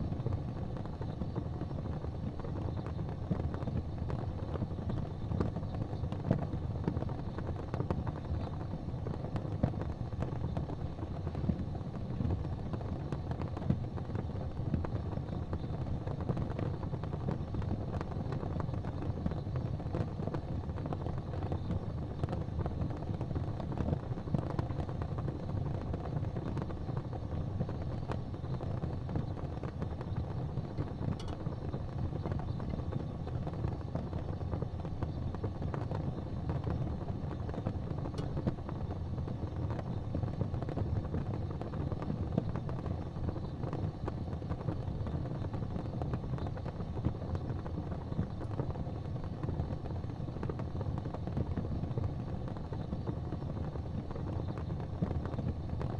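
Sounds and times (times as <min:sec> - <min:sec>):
burning wood popping: 0:00.0 - 0:55.9
fire flames rumbling: 0:00.0 - 0:55.9.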